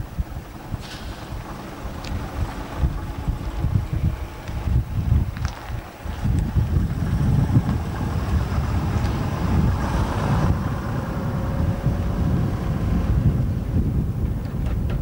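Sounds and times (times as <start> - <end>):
wind buffeting on microphone: 0.0 - 15.0
lorry diesel engine driving past: 0.1 - 5.0, 5.8 - 14.4.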